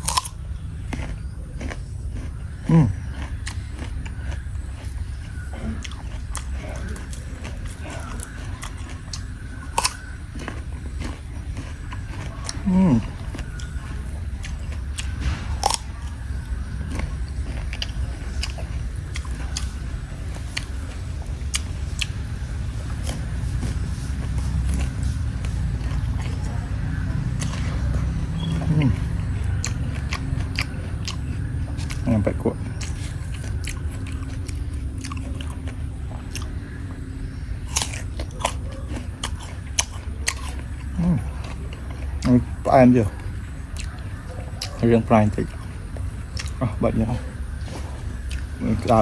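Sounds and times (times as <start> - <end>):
person chewing crunchy fruit: 0.0 - 49.0
steady low rumble: 0.0 - 49.0.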